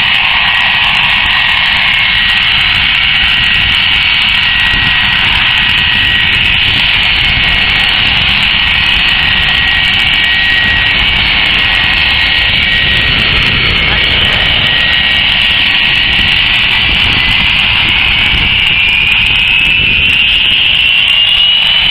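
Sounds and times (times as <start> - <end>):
jet engines running: 0.0 - 21.9.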